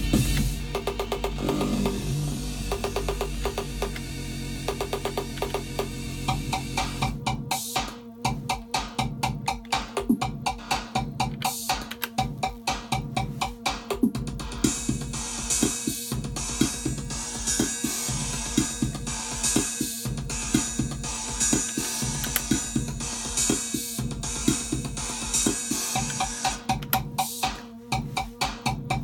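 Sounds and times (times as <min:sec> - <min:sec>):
electronic drum machine beat: 0:00.0 - 0:29.0.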